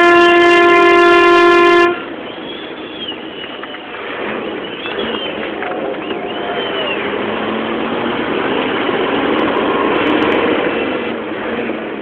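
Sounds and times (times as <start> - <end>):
road noise: 0.0 - 12.0
truck diesel engine running: 1.9 - 12.0.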